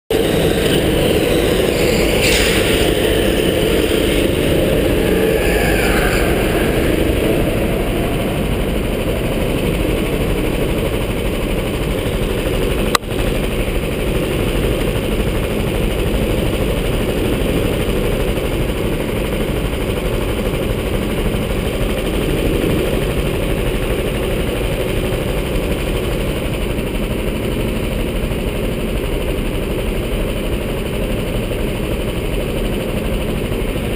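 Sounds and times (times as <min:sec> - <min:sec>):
go-kart engine running hard: 0:00.1 - 0:33.9.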